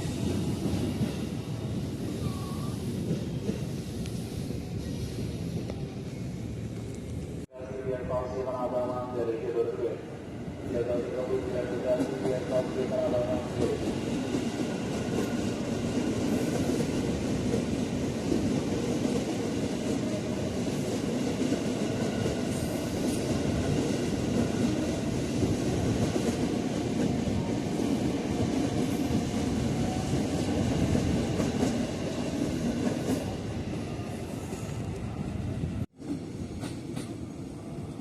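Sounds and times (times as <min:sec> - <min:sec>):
electric train rumbling past: 0:00.0 - 0:38.0.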